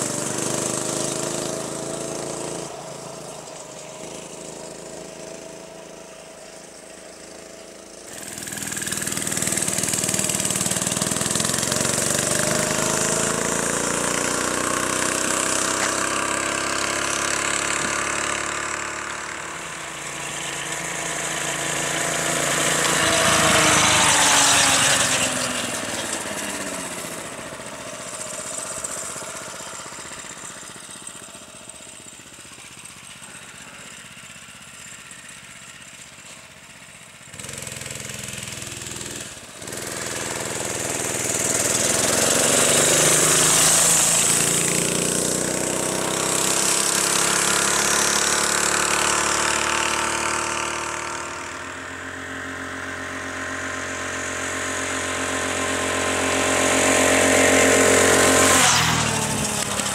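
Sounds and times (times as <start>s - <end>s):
minibike engine passing: 0.0s - 59.9s.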